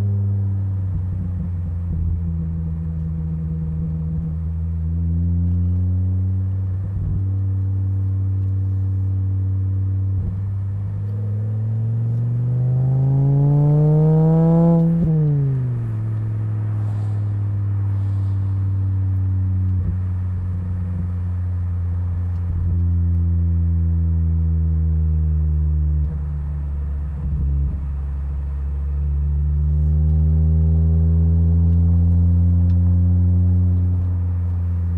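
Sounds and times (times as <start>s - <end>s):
car engine cruising: 0.0s - 34.9s.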